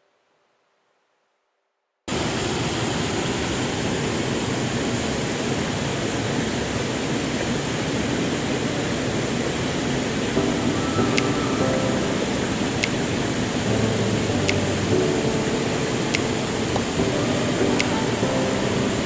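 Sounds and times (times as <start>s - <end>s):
waterfall roaring: 2.1s - 19.0s.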